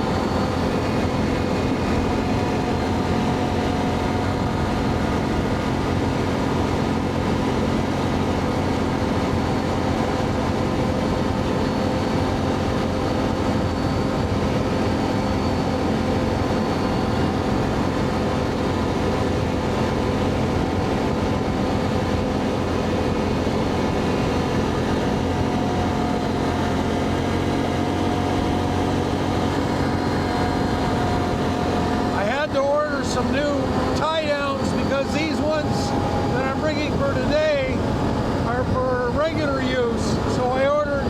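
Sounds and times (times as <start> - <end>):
atv engine running: 0.0 - 41.0
wind noise: 0.0 - 41.0.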